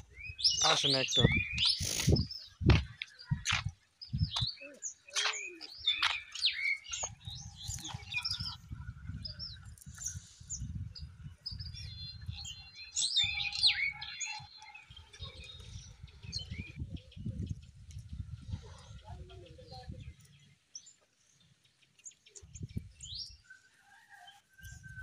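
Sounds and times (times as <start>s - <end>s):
birds chirping and whistling: 0.0s - 18.7s, 19.9s - 23.5s.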